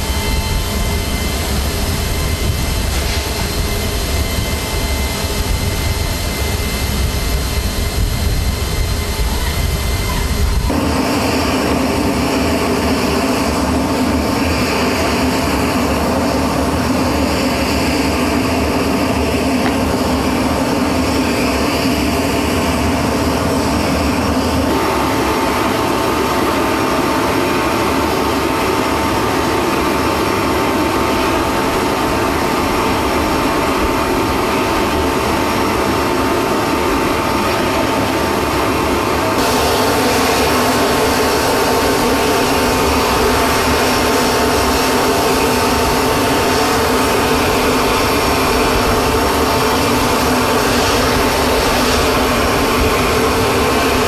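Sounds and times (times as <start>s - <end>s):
jet engine noise: 0.0s - 54.0s
steady high whine: 0.0s - 54.0s.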